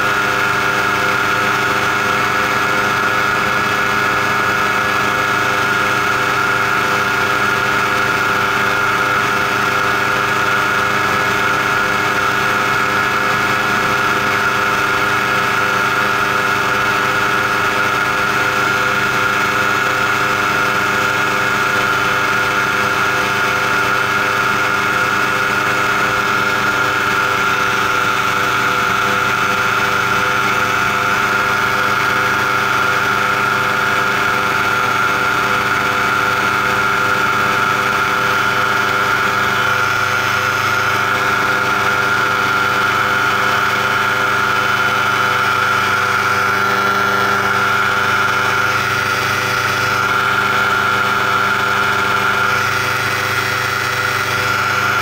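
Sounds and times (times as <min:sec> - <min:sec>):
paramotor engine droning: 0:00.0 - 0:55.0.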